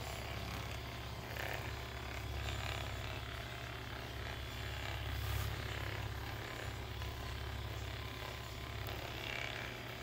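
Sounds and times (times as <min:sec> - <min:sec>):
massage gun hammering: 0:00.0 - 0:10.0.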